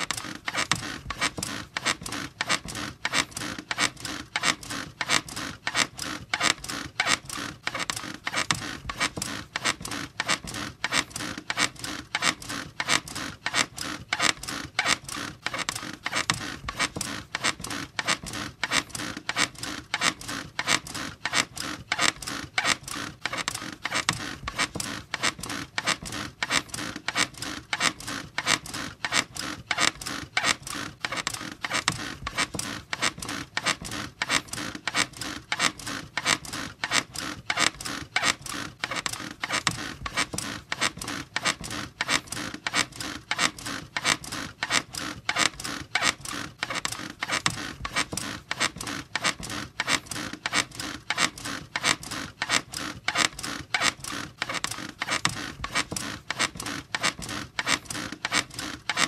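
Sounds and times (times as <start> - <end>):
bed springs squeaking: 0.0 - 59.0.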